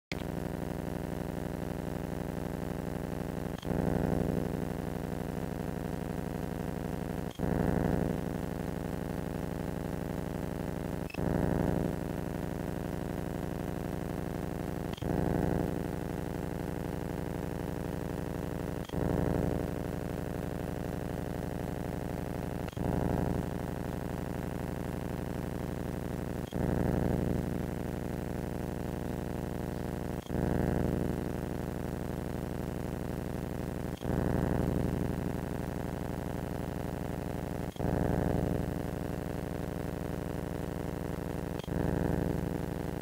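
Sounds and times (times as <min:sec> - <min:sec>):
steady electronic hum: 0:00.1 - 0:43.0.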